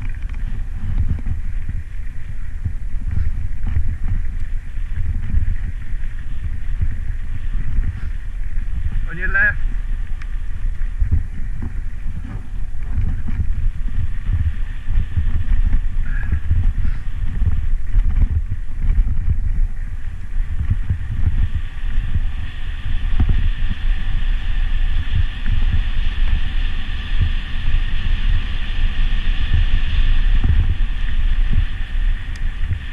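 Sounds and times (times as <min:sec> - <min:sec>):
steady high hiss: 0:00.0 - 0:32.9
wind buffeting microphone: 0:00.0 - 0:32.9.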